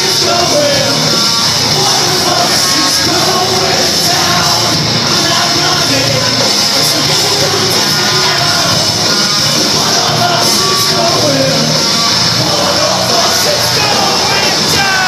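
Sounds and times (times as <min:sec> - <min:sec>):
live rock music: 0:00.0 - 0:15.0
person singing: 0:00.0 - 0:15.0.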